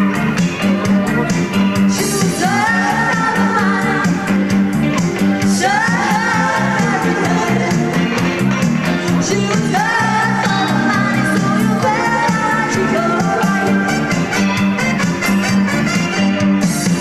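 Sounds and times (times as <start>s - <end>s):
person singing: 0.0s - 14.7s
live band playing: 0.0s - 17.0s.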